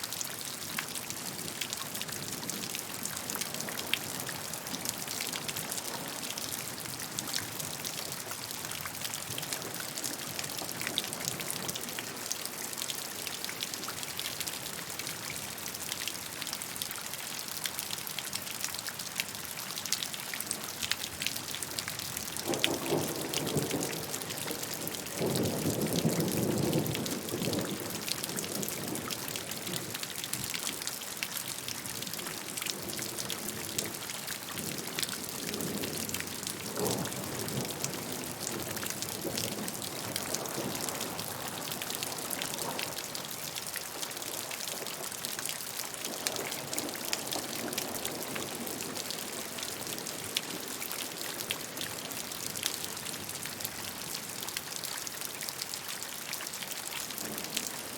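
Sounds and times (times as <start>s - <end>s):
steady rain pattering: 0.0s - 57.9s.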